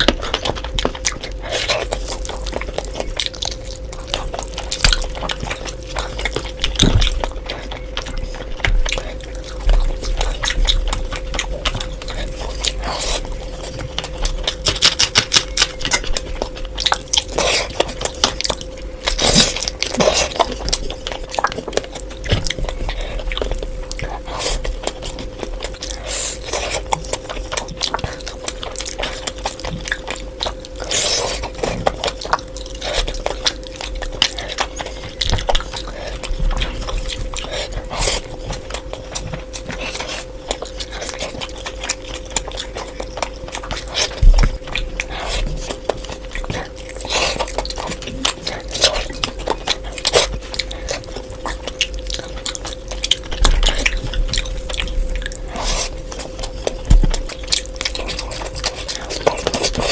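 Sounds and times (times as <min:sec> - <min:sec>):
faint hum: 0:00.0 - 0:59.9
wet chewing and lip smacks: 0:00.0 - 0:59.9.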